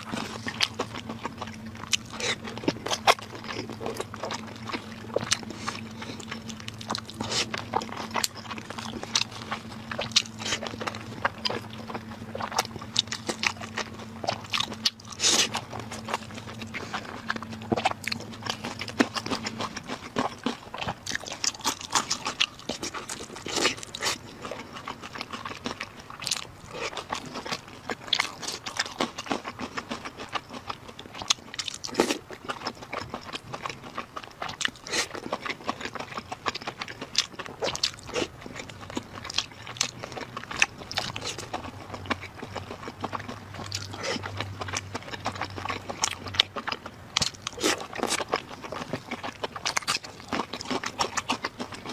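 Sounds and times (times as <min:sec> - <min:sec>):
person chewing and biting food: 0:00.0 - 0:51.9.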